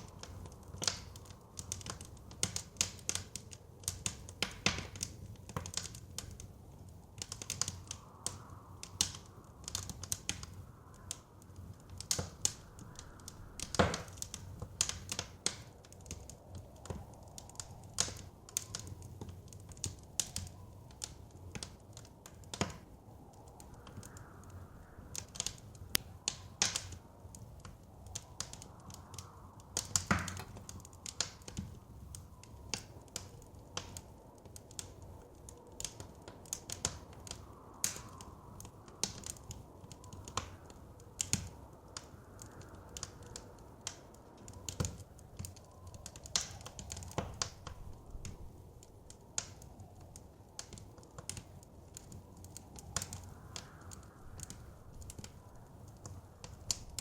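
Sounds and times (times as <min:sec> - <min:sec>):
low rumble of flames: 0:00.0 - 0:57.0
soft blizzard wind: 0:00.0 - 0:57.0
wood fire crackling and popping: 0:00.0 - 0:57.0.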